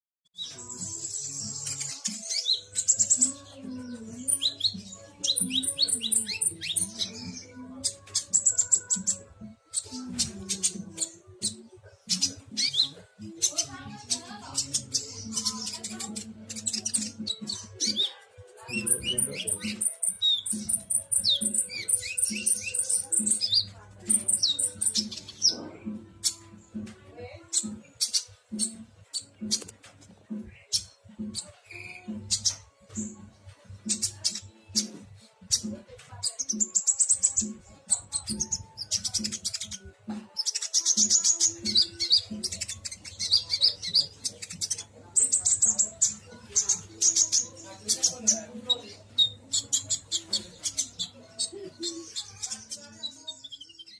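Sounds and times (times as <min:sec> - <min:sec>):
cage bird chattering song: 0:00.3 - 0:53.9.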